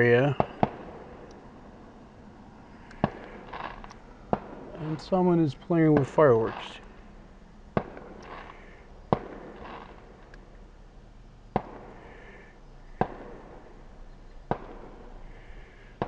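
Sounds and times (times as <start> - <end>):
distant fireworks bangs: 0.0 - 1.8, 2.9 - 10.3, 11.5 - 16.0.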